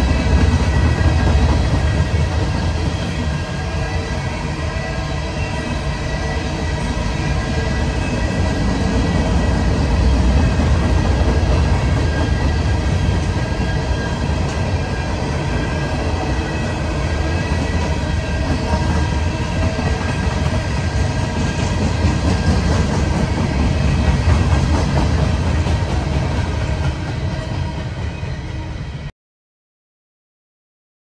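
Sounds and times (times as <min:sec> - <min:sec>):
steel wheels rumbling on rails: 0:00.0 - 0:29.1.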